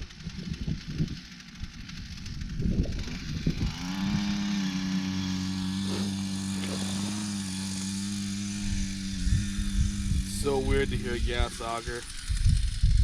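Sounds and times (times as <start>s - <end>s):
ice auger engine running: 0.0s - 13.0s.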